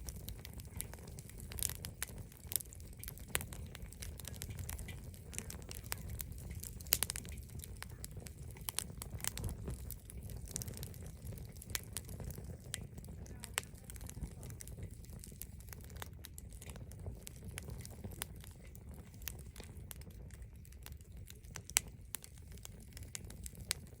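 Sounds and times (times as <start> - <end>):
bonfire crackling and popping: 0.0 - 24.0
low steady rumble: 0.0 - 24.0.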